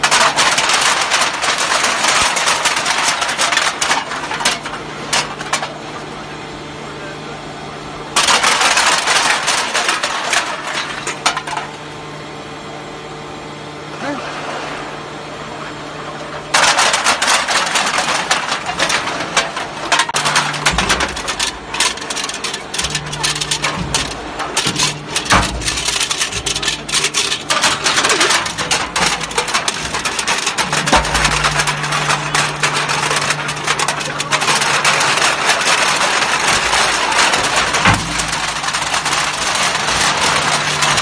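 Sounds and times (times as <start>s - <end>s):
aluminium cans crushing: 0.0s - 5.8s, 8.2s - 11.7s, 16.3s - 41.0s
machine hum: 0.0s - 41.0s.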